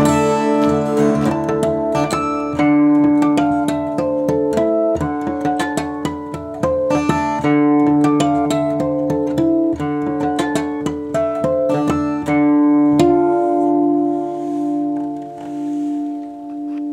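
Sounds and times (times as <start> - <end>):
acoustic guitar fingerpicked: 0.0 - 16.9.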